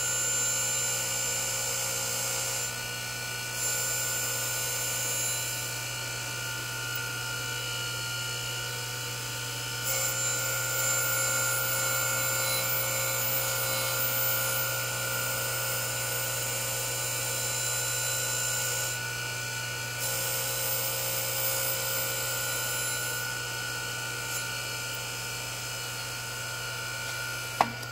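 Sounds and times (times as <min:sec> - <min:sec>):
grinder spindle hum and whine: 0:00.0 - 0:27.9.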